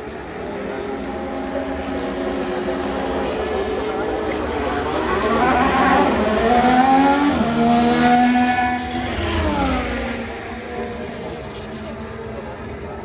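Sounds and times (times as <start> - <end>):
racing car engine passing: 0.5 - 12.3.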